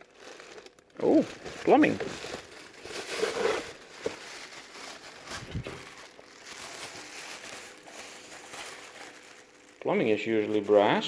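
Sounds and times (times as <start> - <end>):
rubbish rustling and crinkling: 0.0 - 11.0.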